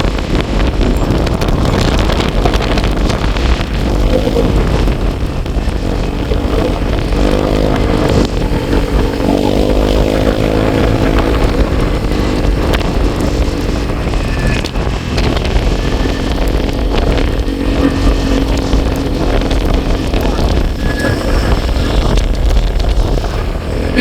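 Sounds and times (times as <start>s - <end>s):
vehicle engine running: 0.0s - 24.0s
wind rumble on microphone: 0.0s - 24.0s.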